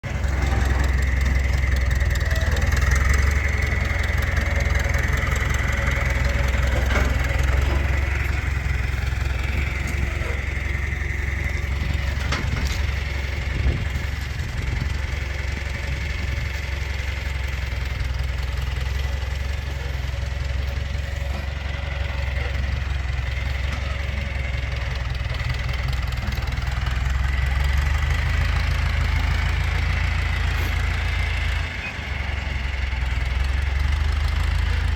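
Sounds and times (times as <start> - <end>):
tractor engine droning: 0.0 - 34.9.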